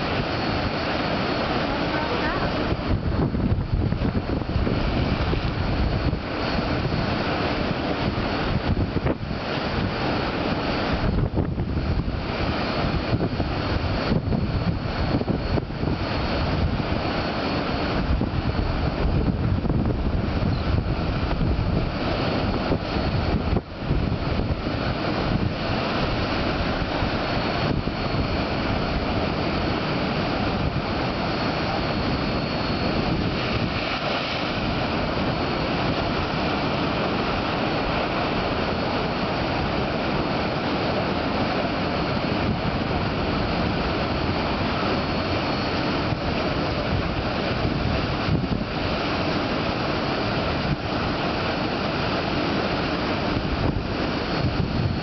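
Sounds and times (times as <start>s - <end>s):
ocean waves breaking: 0.0s - 55.0s
wind buffeting microphone: 0.0s - 55.0s.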